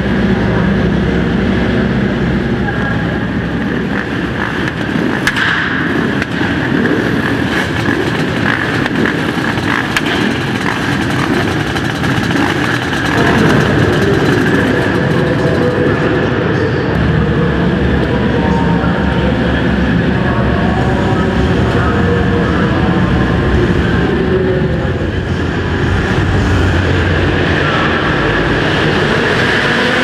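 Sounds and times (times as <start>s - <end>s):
quad engines running: 0.0s - 30.0s.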